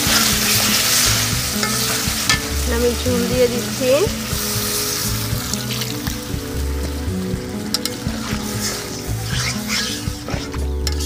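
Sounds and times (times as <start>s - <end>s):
instrumental music with bass: 0.0s - 11.0s
water splashing into pan: 0.0s - 11.0s.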